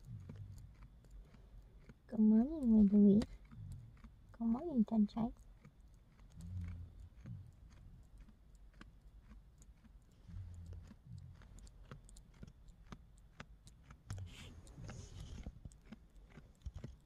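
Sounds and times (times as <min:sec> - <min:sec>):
goat nuzzling phone: 0:00.0 - 0:17.0.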